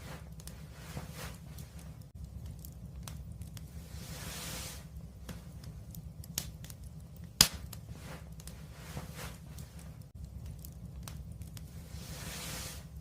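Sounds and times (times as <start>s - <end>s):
fire hissing: 0.0s - 13.0s
wood fire crackling: 0.0s - 13.0s.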